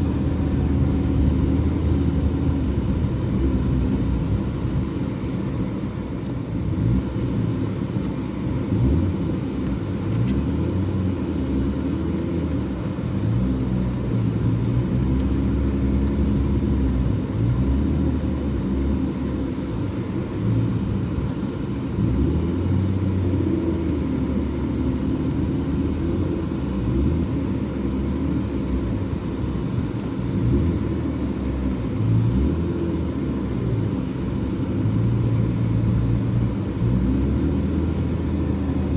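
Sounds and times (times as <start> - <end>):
car engine: 0.0 - 38.9
road noise: 0.0 - 38.9.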